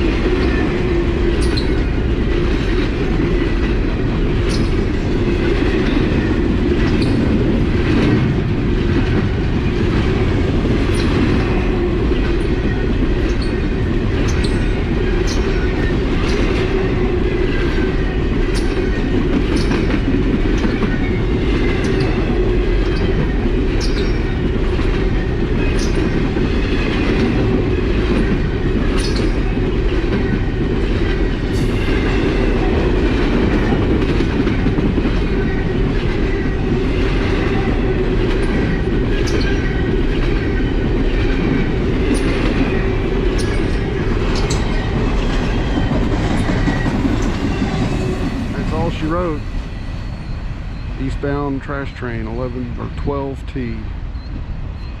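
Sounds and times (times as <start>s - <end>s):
train wheels rumbling and clicking: 0.0s - 55.0s.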